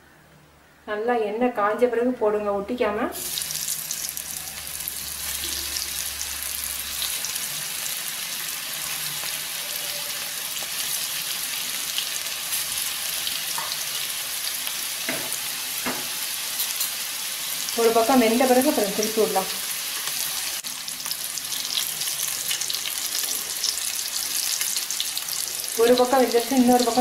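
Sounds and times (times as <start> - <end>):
fish sizzling in hot oil: 3.2 - 27.0.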